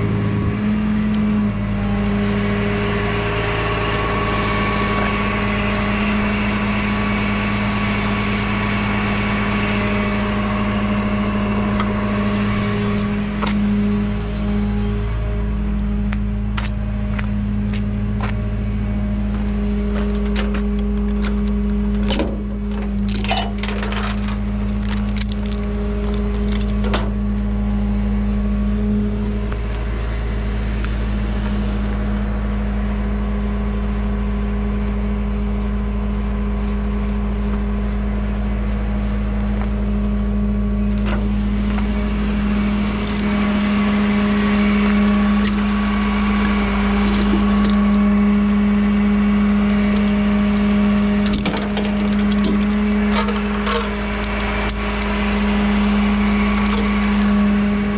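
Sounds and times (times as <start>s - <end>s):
truck engine idling: 0.0s - 57.9s.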